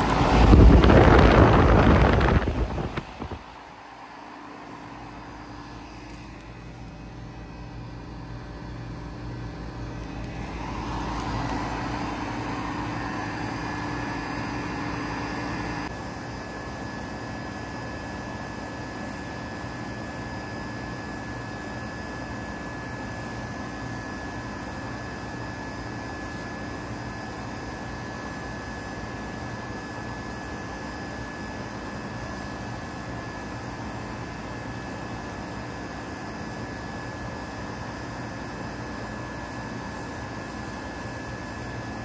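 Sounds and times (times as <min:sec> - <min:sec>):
compressor hum: 0:00.0 - 0:42.0
fan air rushing: 0:00.0 - 0:42.0.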